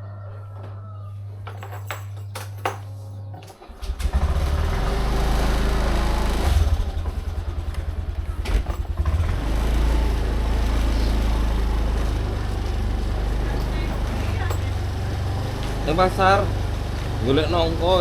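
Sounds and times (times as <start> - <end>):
motorcycle engine: 1.6 - 18.0.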